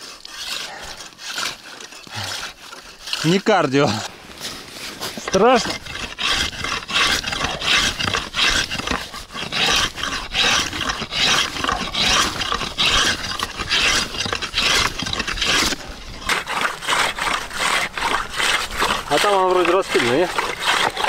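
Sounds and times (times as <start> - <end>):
hand saw rasping through ice: 0.0 - 21.0.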